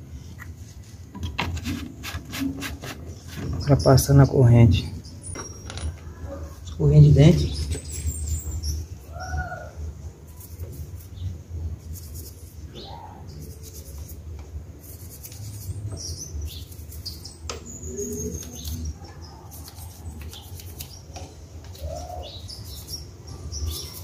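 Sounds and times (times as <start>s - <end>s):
small birds chirping: 3.1s - 14.2s, 14.8s - 24.0s.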